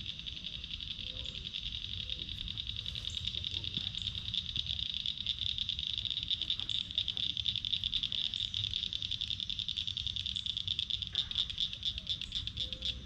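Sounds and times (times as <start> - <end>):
animals trilling in chorus: 0.0 - 13.0.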